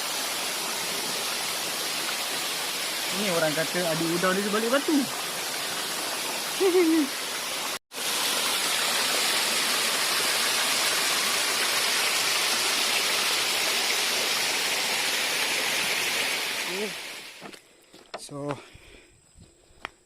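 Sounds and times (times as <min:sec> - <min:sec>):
waterfall rushing: 0:00.0 - 0:17.4.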